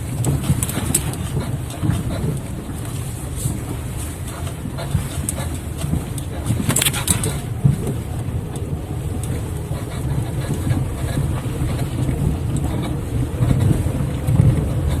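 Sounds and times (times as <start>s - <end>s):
low car rumble: 0.0s - 15.0s.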